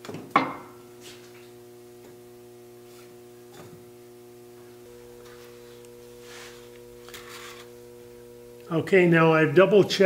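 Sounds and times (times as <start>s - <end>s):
electrical hum: 0.0s - 10.0s
higher electrical tone: 0.6s - 10.0s.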